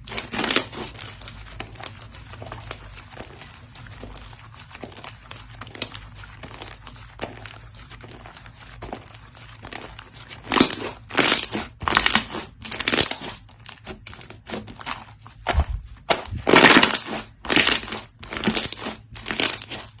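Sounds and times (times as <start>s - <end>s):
slime crackling: 0.0s - 20.0s
slime squishing by hand: 0.0s - 20.0s.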